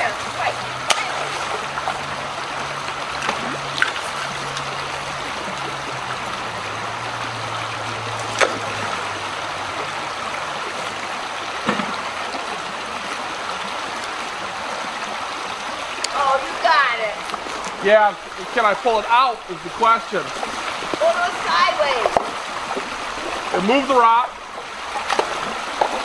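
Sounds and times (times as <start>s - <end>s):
creek rushing over stones: 0.0s - 26.0s.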